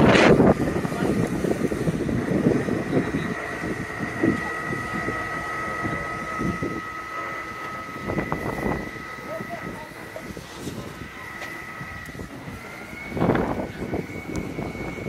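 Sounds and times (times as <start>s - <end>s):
lower tone: 0.0s - 15.0s
steady high-pitched tone: 0.0s - 15.0s
vehicle fire crackling rumble: 0.0s - 15.0s
wind buffeting microphone: 0.0s - 15.0s.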